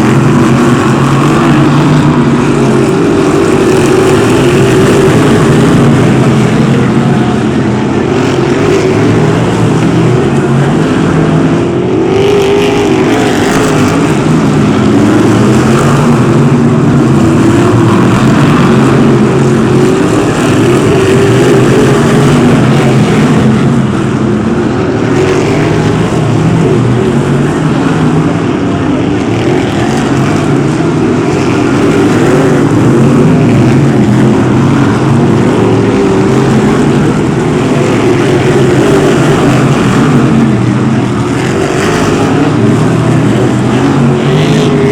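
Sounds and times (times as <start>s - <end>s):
racing car engines: 0.0s - 44.9s.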